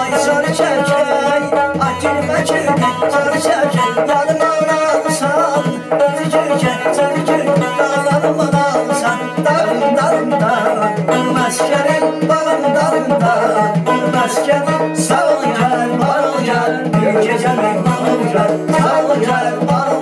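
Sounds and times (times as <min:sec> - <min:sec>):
acoustic guitar: 0:00.0 - 0:20.0
frame drum beating: 0:00.0 - 0:20.0
person singing: 0:00.0 - 0:20.0
plucked lute: 0:00.0 - 0:20.0.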